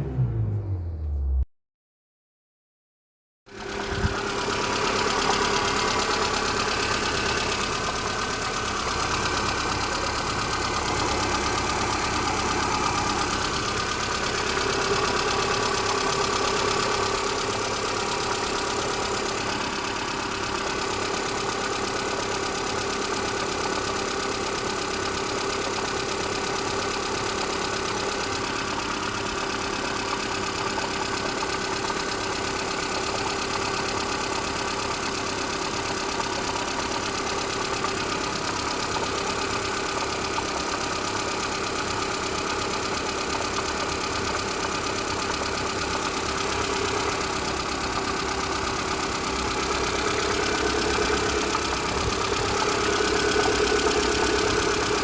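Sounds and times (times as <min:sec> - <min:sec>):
car engine idling: 0:03.6 - 0:55.0.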